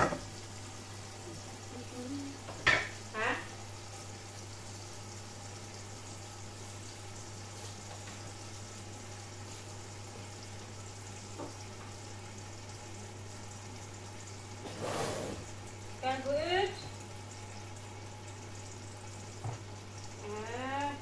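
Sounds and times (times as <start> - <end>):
food simmering in covered pan: 0.0 - 21.0.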